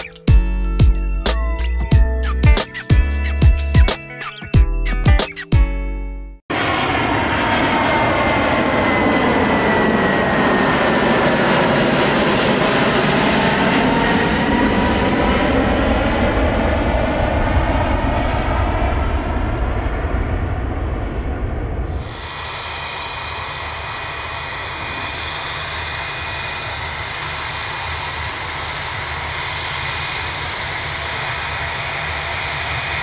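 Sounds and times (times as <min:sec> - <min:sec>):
jet aircraft roaring overhead: 0:06.5 - 0:33.0.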